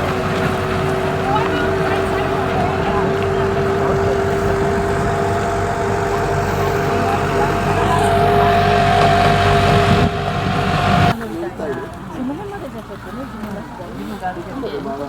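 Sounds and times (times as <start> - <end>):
vehicle engine drone: 0.0 - 15.0.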